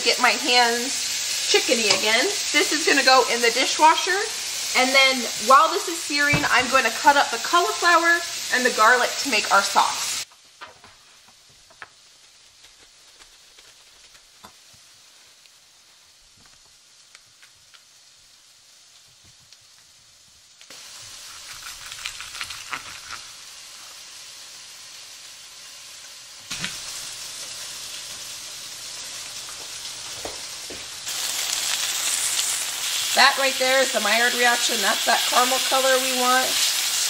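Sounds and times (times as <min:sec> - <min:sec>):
chicken sizzling in a skillet: 0:00.0 - 0:10.3, 0:11.8 - 0:37.0.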